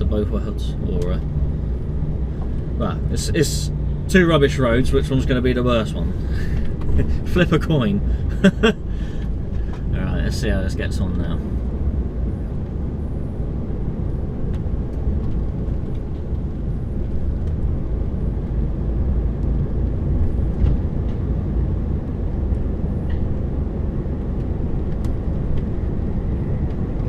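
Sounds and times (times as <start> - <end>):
lorry engine and road rumble: 0.0 - 27.0.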